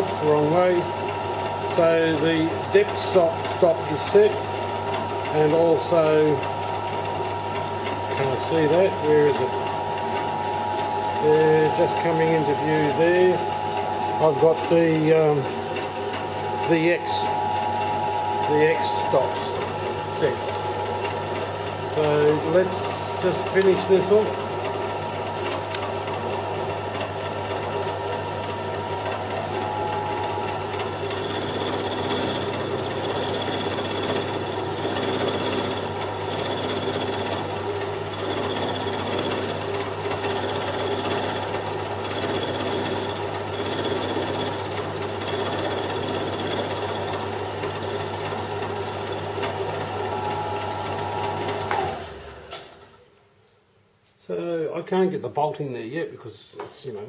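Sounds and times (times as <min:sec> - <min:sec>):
milling machine cutting metal: 0:00.0 - 0:52.6
machine winding down: 0:00.0 - 0:52.7.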